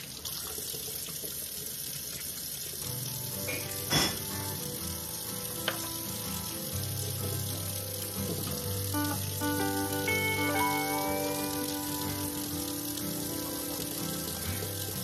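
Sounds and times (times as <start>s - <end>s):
faucet water running into sink: 0.0s - 15.0s.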